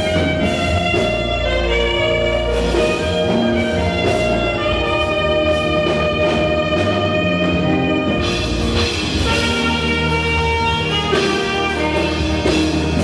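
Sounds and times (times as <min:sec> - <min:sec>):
live praise band music: 0:00.0 - 0:13.0.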